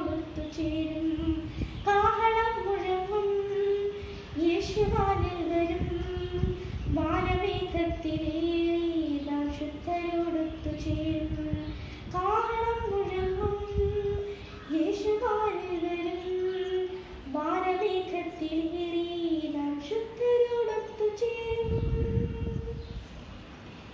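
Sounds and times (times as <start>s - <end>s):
girl singing solo: 0.0s - 22.9s.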